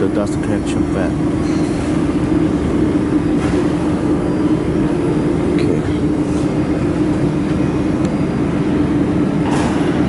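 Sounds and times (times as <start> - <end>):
dust collection fan running: 0.0 - 10.0.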